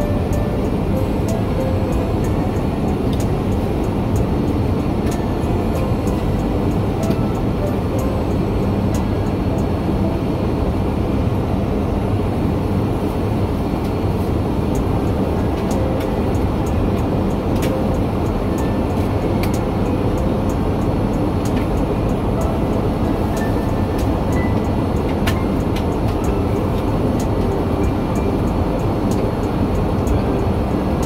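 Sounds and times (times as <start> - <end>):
jet engine and airflow drone: 0.0 - 31.0.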